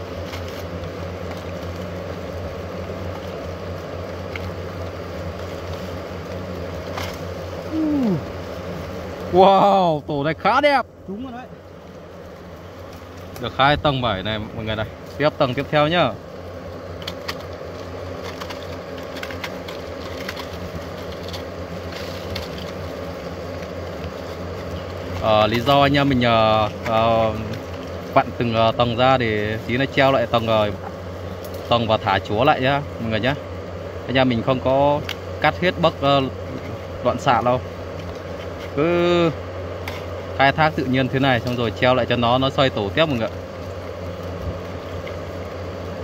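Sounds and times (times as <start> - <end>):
hornets buzzing: 0.0 - 46.0
paper nest crackling: 0.0 - 46.0.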